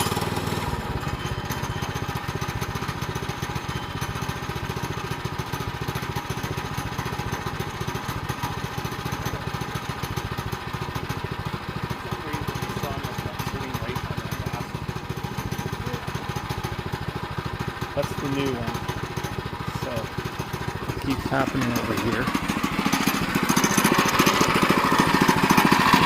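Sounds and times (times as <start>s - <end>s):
small gas engine running: 0.0s - 26.0s.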